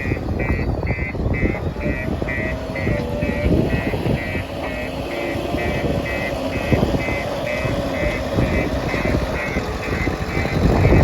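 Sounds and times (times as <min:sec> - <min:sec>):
diesel engine running under load: 0:00.0 - 0:11.0
reversing alarm beeping: 0:00.0 - 0:11.0.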